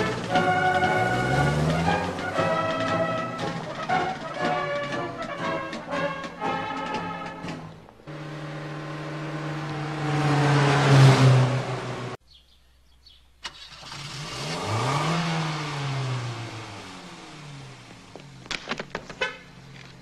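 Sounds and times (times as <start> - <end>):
car engine running: 0.0 - 12.2, 13.4 - 20.0.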